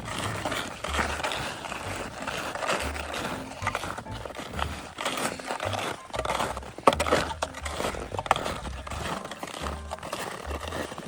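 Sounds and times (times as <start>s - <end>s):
footsteps crunching on snow: 0.0s - 11.0s
low microphone rumble: 0.0s - 11.0s.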